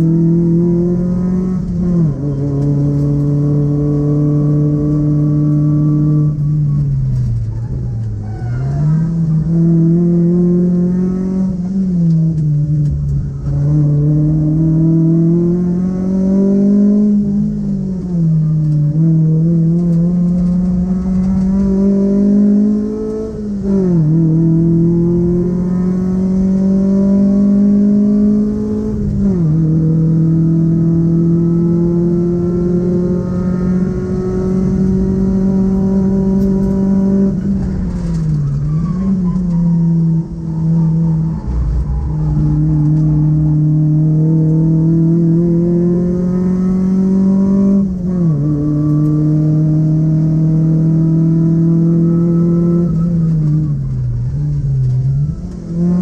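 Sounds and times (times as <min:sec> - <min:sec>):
car engine under load: 0:00.0 - 0:56.0
tyre and road noise: 0:00.0 - 0:56.0.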